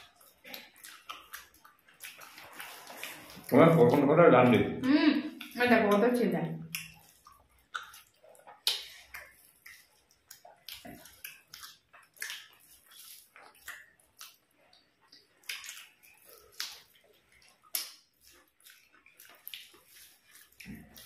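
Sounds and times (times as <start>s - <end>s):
wet lip smacks and clicks: 0.0s - 4.0s, 5.3s - 21.0s
people chewing rice: 0.0s - 21.0s.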